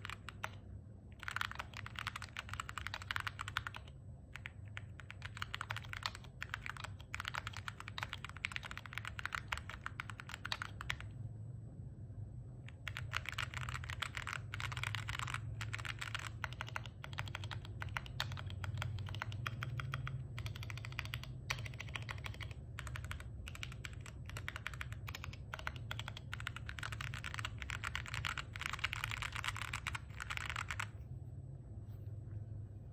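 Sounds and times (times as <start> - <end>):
fast typing on mechanical keyboard: 0.0 - 11.2, 12.6 - 31.0.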